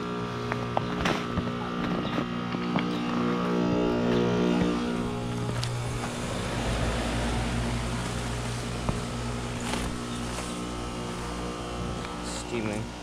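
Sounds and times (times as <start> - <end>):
compressor hum: 0.0 - 13.0.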